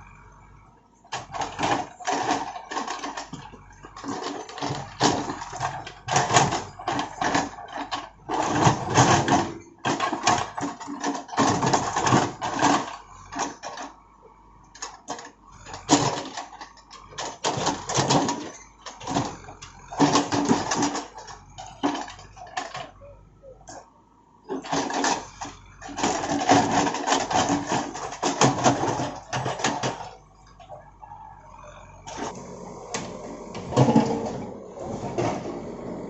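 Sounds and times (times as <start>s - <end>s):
backhoe clattering and scraping: 0.0s - 36.0s.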